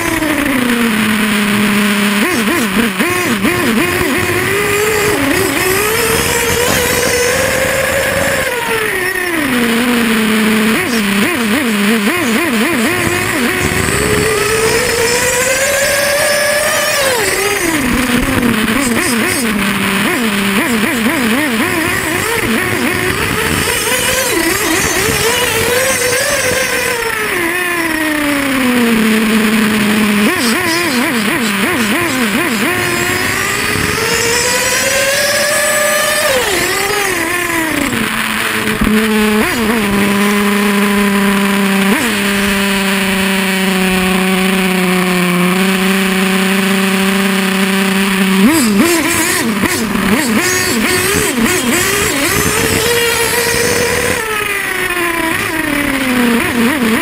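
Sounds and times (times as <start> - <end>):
model snowmobile motor whining: 0.0 - 57.0.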